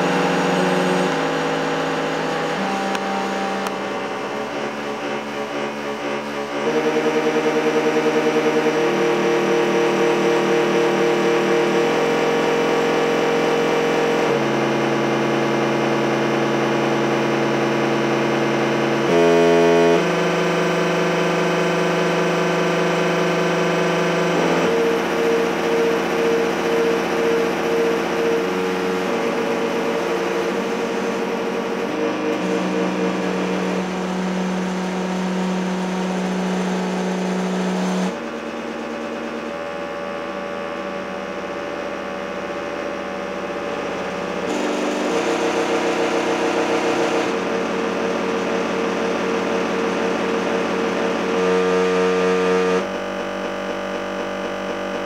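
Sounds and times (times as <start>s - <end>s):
electronic drone of layered tones: 0.0s - 55.0s.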